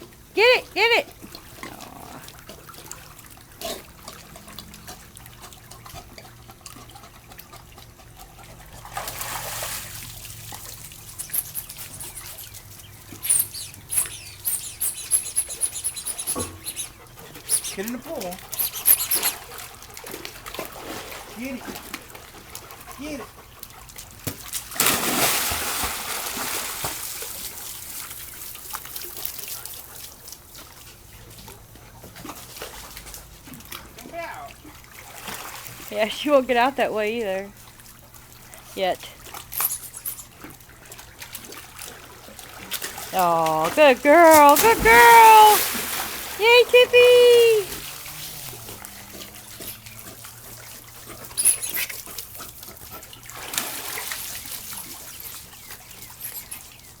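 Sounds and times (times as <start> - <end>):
water sloshing and dribbling: 1.1 - 57.0
dog splashing into pool: 2.2 - 31.0, 31.6 - 57.0.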